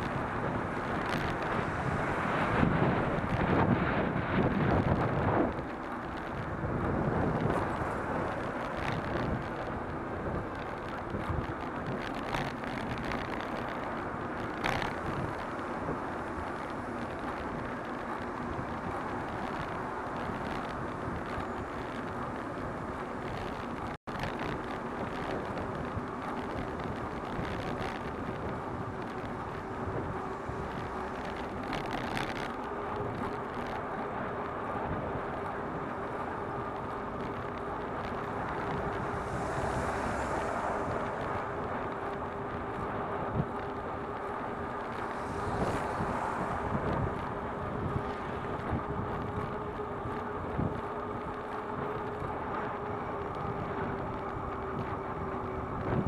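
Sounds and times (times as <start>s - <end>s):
road noise: 0.0s - 56.0s
wind rush: 0.0s - 56.0s.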